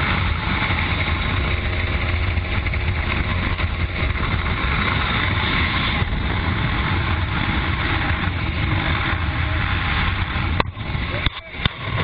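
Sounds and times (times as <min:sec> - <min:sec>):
helicopter engine and rotor noise: 0:00.0 - 0:12.0
rushing wind: 0:00.0 - 0:12.0.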